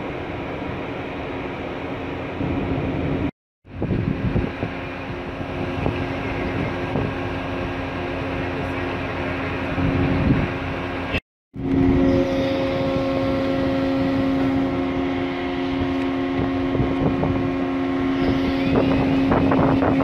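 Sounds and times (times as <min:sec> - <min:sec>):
ship machinery drone: 0:00.0 - 0:20.0
humming tones: 0:03.8 - 0:20.0.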